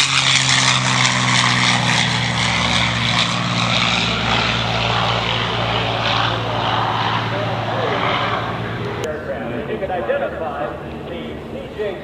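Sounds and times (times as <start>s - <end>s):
turboprop aircraft flying past: 0.0s - 12.0s.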